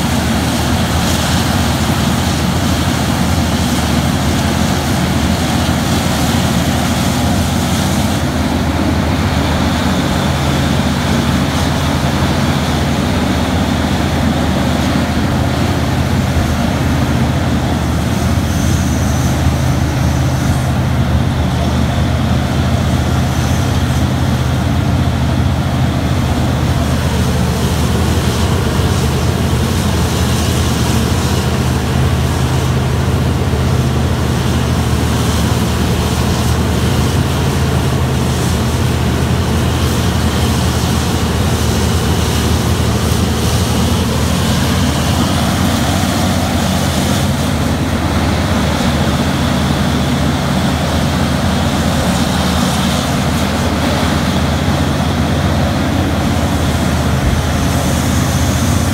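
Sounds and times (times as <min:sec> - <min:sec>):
heavy machine engine drone: 0:00.0 - 0:58.9.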